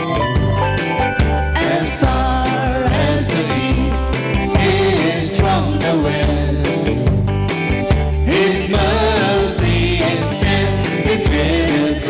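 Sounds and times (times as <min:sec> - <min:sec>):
electric guitar: 0:00.0 - 0:12.0
keyboard playing: 0:00.0 - 0:12.0
live worship band music: 0:00.0 - 0:12.0.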